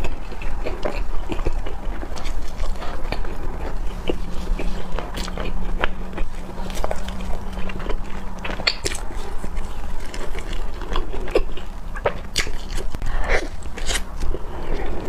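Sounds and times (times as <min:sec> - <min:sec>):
chewing soft bread: 0:00.0 - 0:15.0
faint low hum: 0:00.0 - 0:15.0.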